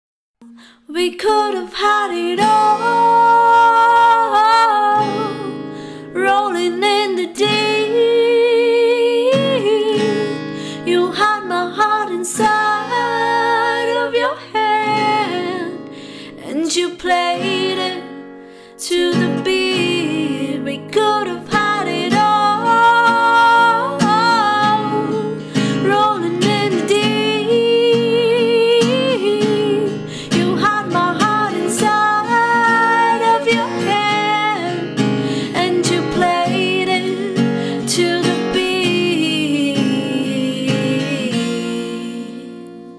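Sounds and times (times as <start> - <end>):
strummed acoustic guitar: 0.4 - 42.9
woman singing: 0.4 - 42.9.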